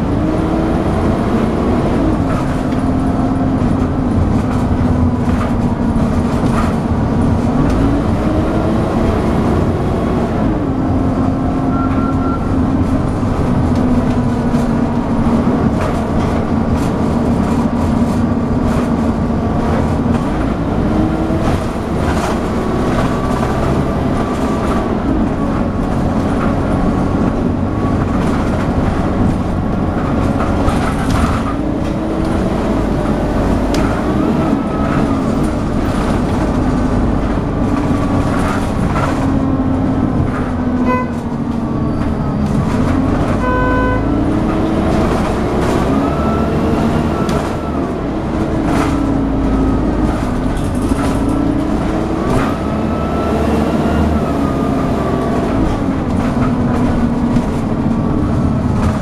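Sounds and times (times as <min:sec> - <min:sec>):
bus engine whining: 0:00.0 - 0:59.0
road noise: 0:00.0 - 0:59.0.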